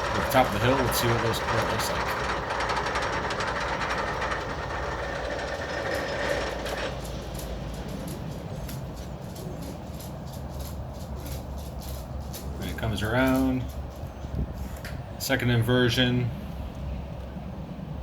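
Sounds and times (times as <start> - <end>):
roller coaster mechanical clatter: 0.0 - 17.3
train rumbling on track: 0.0 - 18.0.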